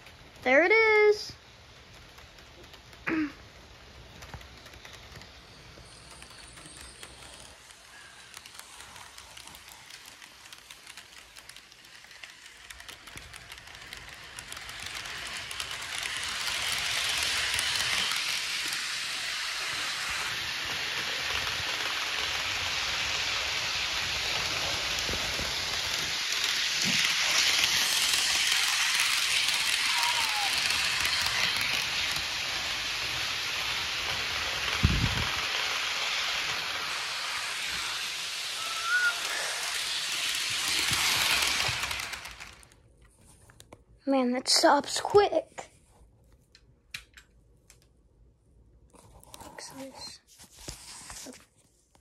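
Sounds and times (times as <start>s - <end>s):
model train rattling: 0.0s - 42.8s.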